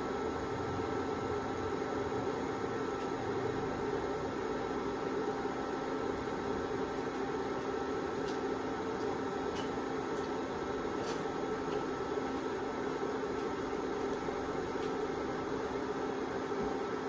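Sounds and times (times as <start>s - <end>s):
cooling fan humming: 0.0s - 17.0s.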